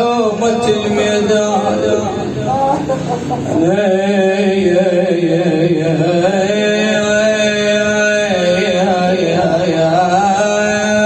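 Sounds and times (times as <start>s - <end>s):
man singing melismatic lament: 0.0s - 2.7s, 3.4s - 11.0s.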